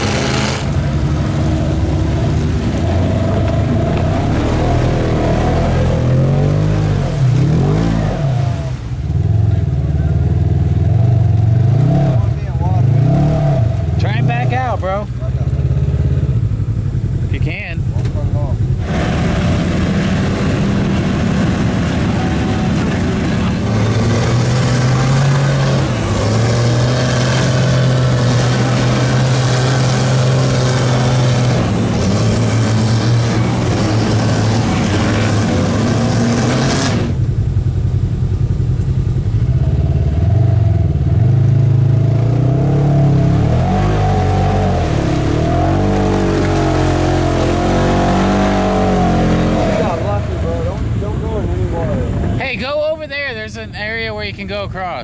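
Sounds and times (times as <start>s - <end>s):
truck engines revving: 0.0s - 55.0s.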